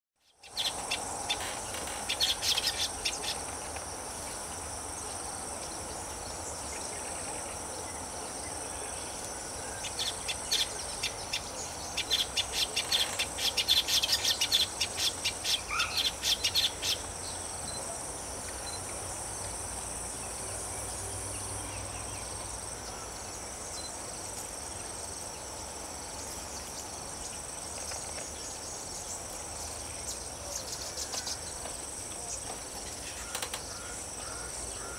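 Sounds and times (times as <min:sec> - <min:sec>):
insects droning: 0:00.2 - 0:34.9.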